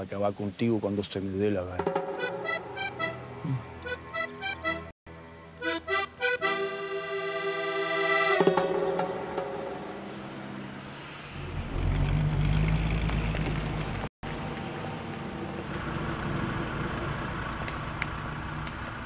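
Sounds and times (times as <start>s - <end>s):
truck engine rumbling: 1.8s - 4.9s, 5.5s - 19.0s.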